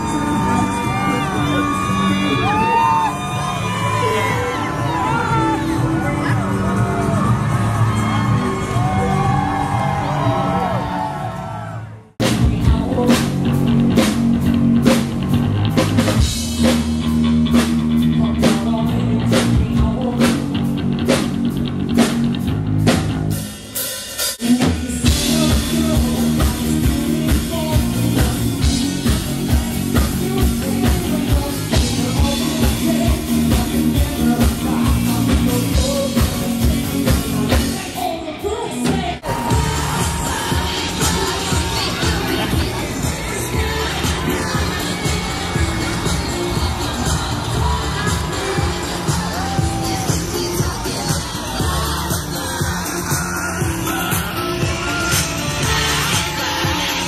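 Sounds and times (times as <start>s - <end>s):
person singing: 0.0s - 10.9s, 12.2s - 14.2s, 17.8s - 21.2s, 24.4s - 57.0s
live rock band playing: 0.0s - 11.0s, 12.2s - 57.0s.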